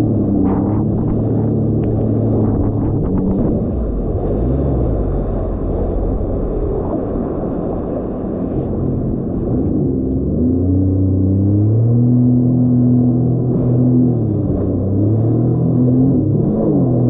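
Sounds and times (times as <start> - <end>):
watercraft engine running: 0.0 - 17.0.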